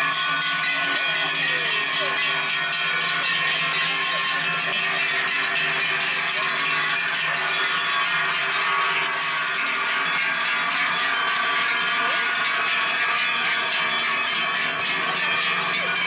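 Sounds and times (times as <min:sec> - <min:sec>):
cowbells clanging: 0:00.0 - 0:16.0.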